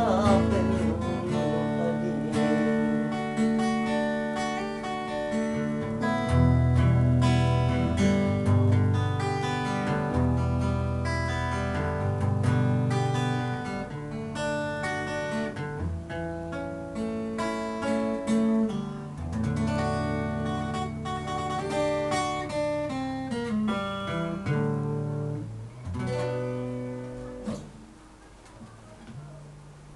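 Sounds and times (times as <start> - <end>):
acoustic guitar playing: 0.0 - 29.9.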